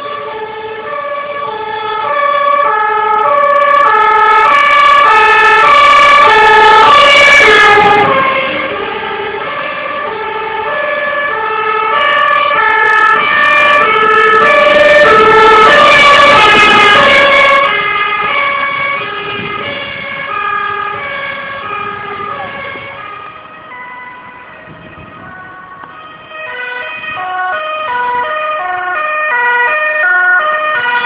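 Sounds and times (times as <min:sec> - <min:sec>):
fire engine two-tone siren: 0:00.0 - 0:31.0.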